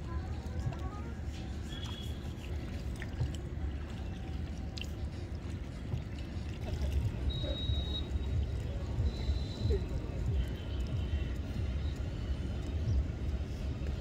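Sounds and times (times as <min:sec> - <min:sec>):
water trickling into river: 0:00.0 - 0:14.0.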